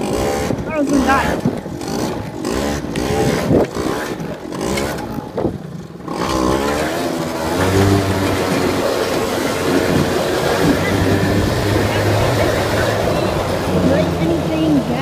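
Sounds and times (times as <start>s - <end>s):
quad engine revving: 0.0s - 15.0s.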